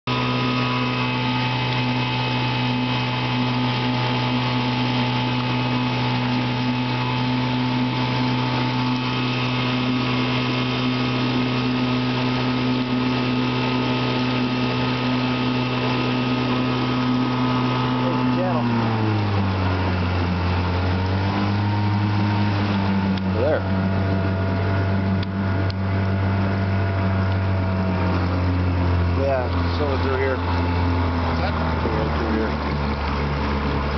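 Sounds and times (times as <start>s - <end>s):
outboard motor running: 0.0s - 33.9s.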